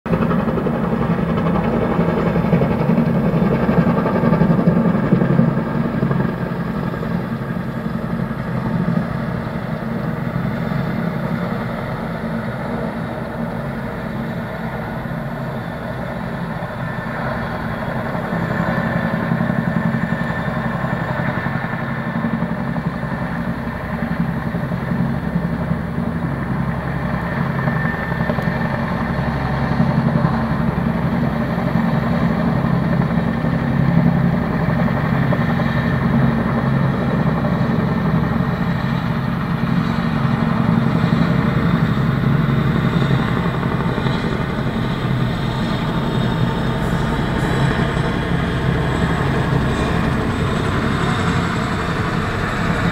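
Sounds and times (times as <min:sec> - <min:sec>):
helicopter engine noise: 0:00.1 - 0:52.9
helicopter rotors beating: 0:00.1 - 0:52.9.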